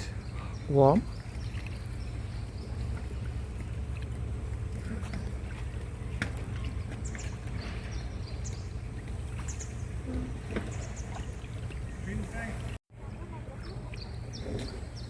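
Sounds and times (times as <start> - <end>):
small splashes: 0.0 - 12.8
steady low rumble: 0.0 - 15.0
water splashing and lapping: 0.0 - 15.0.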